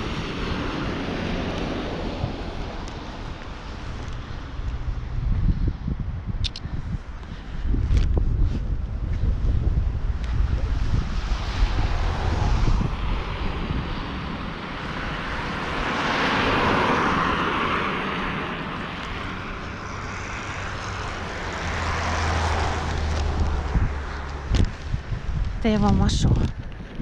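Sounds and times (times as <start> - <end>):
vehicle passing: 0.0 - 5.8, 8.5 - 26.2
wind buffeting microphone: 0.0 - 27.0.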